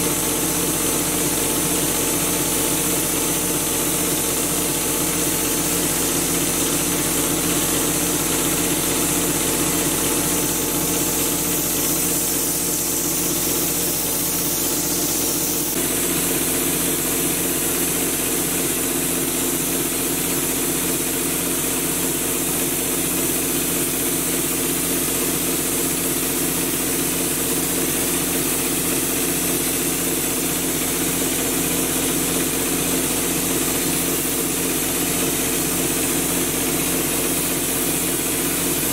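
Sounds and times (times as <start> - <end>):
air hissing from spray gun: 0.0 - 21.1, 21.9 - 38.9.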